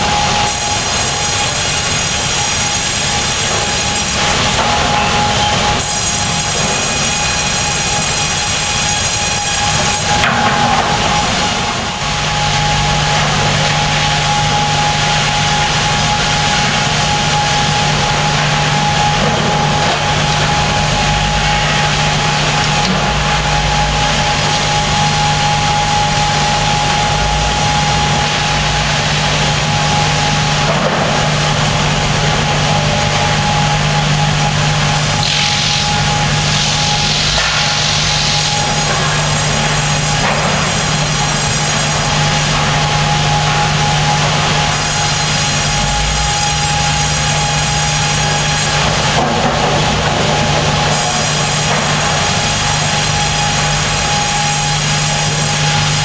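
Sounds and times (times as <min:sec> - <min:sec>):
saw high whine: 0:00.0 - 0:56.0
sawmill machinery hum: 0:00.0 - 0:56.0.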